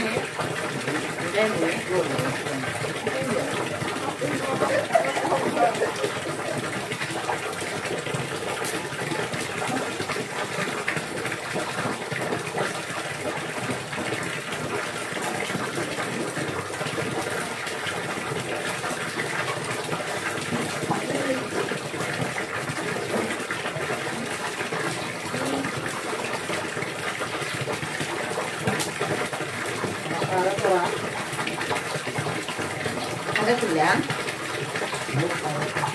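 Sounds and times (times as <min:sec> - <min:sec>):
running water rushing: 0:00.0 - 0:35.9.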